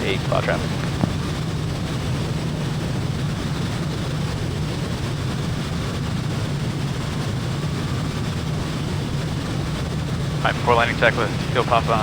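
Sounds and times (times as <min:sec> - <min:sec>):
propeller airplane engine drone: 0:00.0 - 0:12.0.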